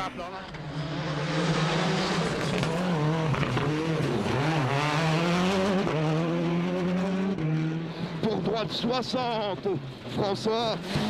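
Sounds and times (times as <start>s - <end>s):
rally car engine revving: 0.5s - 11.0s.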